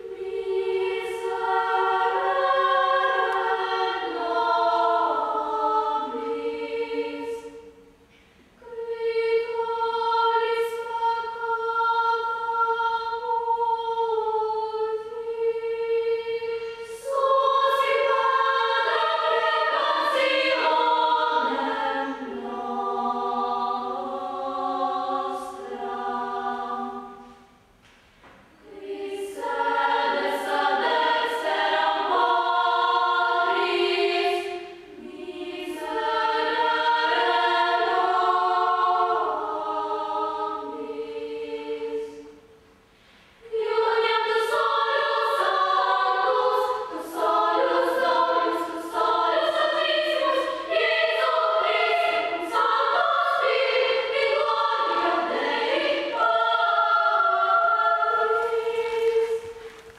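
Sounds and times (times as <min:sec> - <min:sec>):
girls' choir singing: 0:00.0 - 0:42.8, 0:43.4 - 0:59.9.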